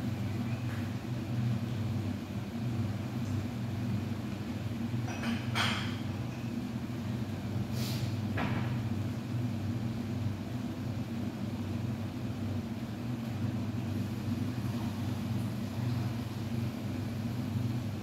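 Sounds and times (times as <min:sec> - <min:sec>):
kitchen fan humming: 0:00.0 - 0:18.0.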